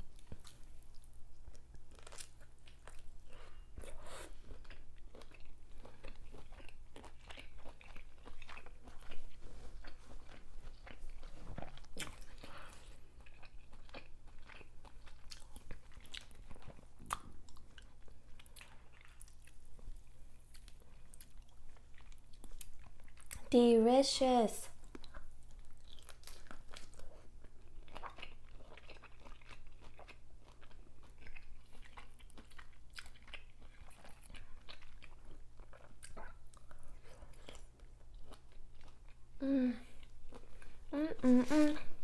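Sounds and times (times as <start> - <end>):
wet chewing and mouth sounds: 0.0 - 23.5, 24.8 - 42.0
faint low hum: 0.0 - 42.0.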